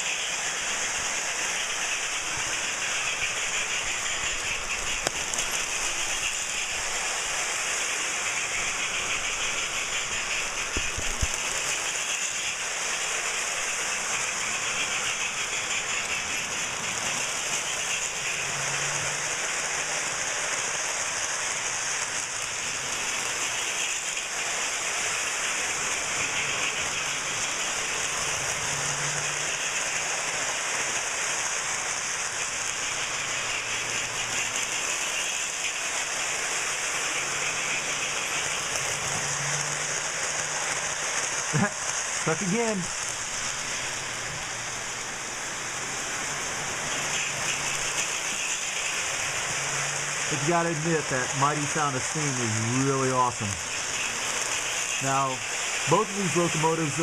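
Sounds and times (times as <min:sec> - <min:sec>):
toy train motors running: 0:00.0 - 0:57.0
toy train wheels rattling on rails: 0:00.0 - 0:57.0.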